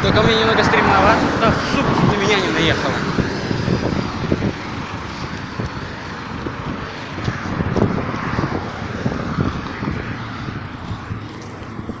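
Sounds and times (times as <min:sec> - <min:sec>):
low road rumble: 0:00.0 - 0:12.0
wind buffeting microphone: 0:00.0 - 0:12.0.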